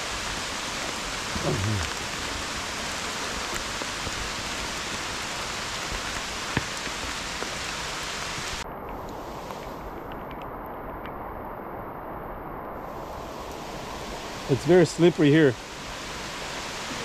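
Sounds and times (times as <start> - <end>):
heavy rain hissing: 0.0 - 10.0, 12.8 - 17.0.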